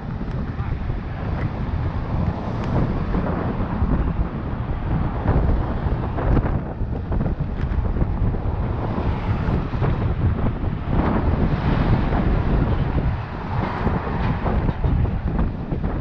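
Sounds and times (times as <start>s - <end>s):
cars passing: 0.0s - 16.0s
wind buffeting microphone: 0.0s - 16.0s.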